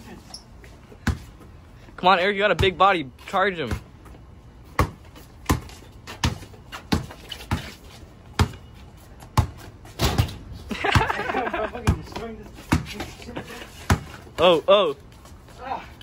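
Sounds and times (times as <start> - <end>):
basketball bouncing on pavers: 0.9 - 1.6, 2.2 - 14.7.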